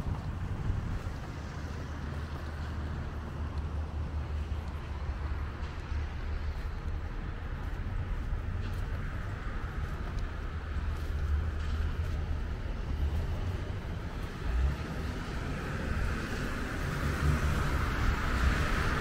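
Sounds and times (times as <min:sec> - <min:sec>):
traffic hiss on wet pavement: 0:00.0 - 0:19.0
wind buffeting microphone: 0:00.0 - 0:19.0
rain: 0:03.5 - 0:19.0.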